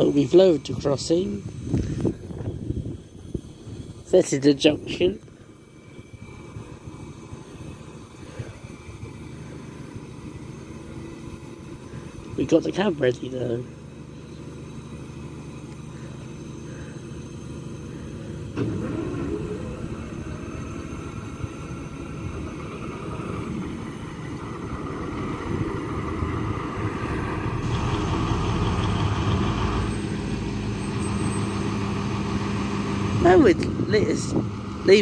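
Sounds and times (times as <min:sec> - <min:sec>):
locomotive diesel engines: 0:00.0 - 0:35.0.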